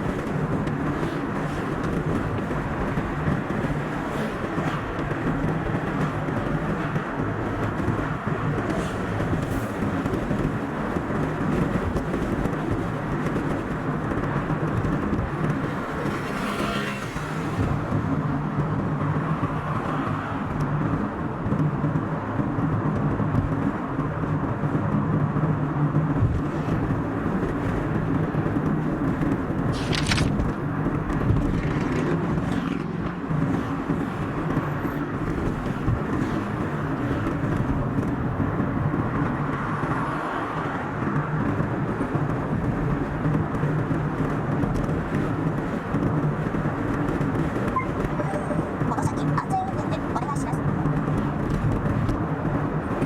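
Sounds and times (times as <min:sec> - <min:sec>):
car driving on highway: 0:00.0 - 0:53.0.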